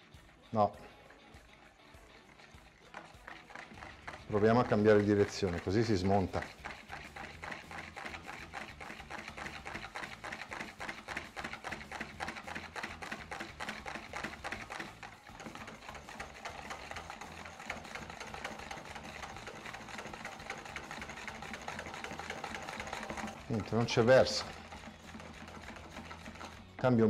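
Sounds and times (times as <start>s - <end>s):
whisk clicking and scraping bowl: 0.0s - 27.0s.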